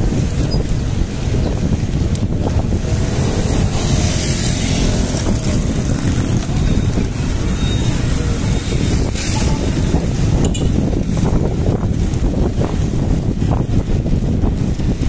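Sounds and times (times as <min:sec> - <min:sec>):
passing vehicle engines in traffic: 0:00.0 - 0:15.0
wind rushing over microphone: 0:00.0 - 0:15.0.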